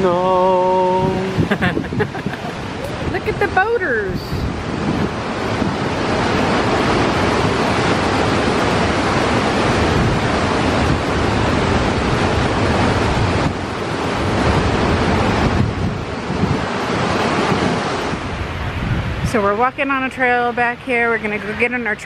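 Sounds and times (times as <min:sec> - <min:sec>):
waterfall rushing: 0:00.0 - 0:22.0
wind buffeting microphone: 0:00.0 - 0:22.0.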